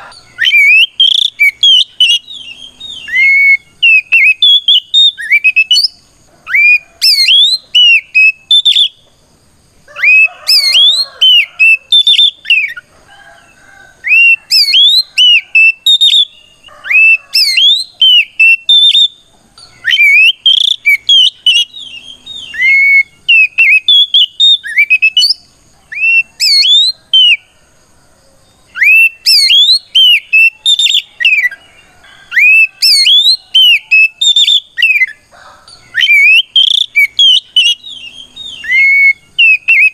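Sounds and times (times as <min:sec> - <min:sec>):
bird singing whistled phrases: 0:00.0 - 0:09.0, 0:10.0 - 0:12.8, 0:14.0 - 0:27.4, 0:28.7 - 0:31.6, 0:32.3 - 0:35.2, 0:35.9 - 0:39.9.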